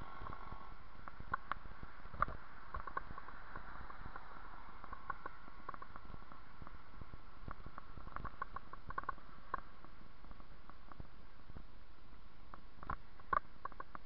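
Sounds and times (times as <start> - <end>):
bicycle tyres rumbling on pavement: 0.0 - 11.7.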